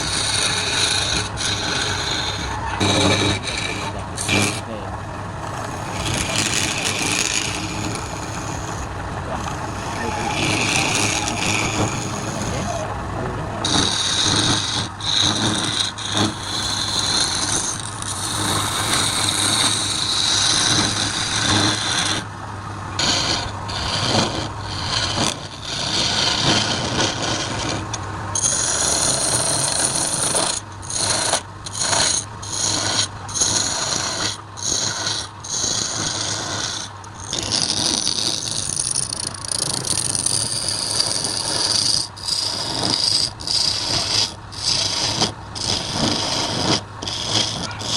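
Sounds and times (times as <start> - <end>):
lathe motor hum: 0.0 - 47.9
turning tool scraping wood: 0.0 - 47.9.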